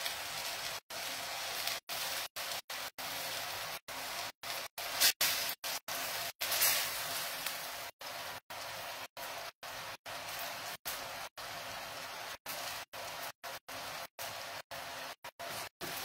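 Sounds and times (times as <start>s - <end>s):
chicken rolls sizzling in a pan: 0.0s - 16.0s.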